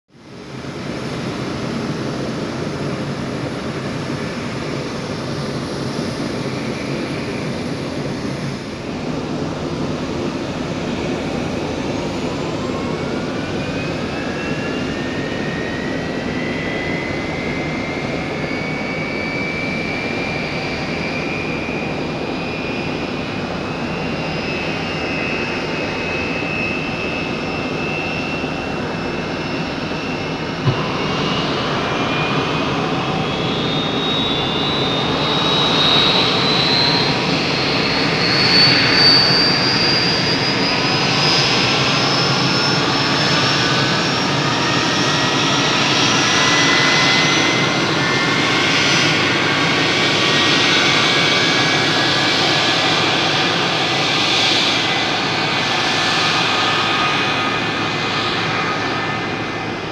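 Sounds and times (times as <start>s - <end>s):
jet engine whine rising: 0.2s - 59.9s.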